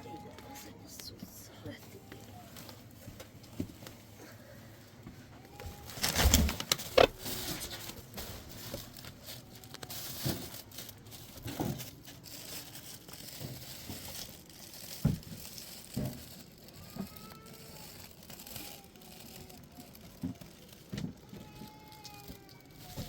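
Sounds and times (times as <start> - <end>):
rustling and crinkling handling: 0.0 - 23.0.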